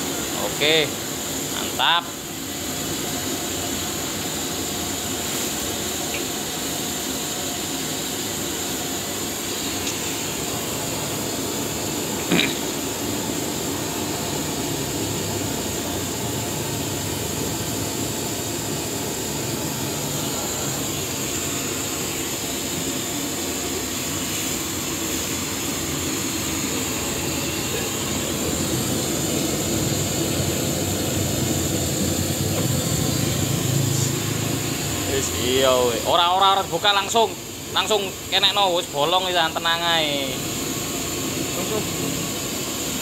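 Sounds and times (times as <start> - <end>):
gas burner roaring: 0.0 - 43.0.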